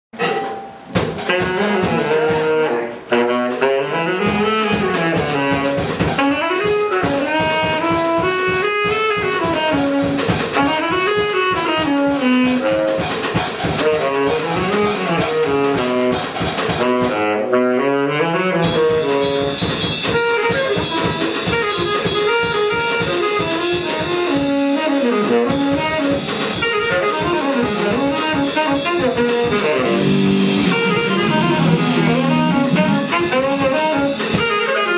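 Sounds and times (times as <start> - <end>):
drum kit steady beat: 0.1 - 34.9
saxophone melody: 0.8 - 34.9.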